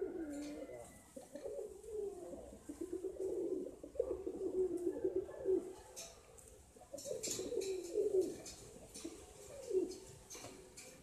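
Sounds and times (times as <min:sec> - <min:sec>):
pigeon cooing: 0:00.0 - 0:10.6.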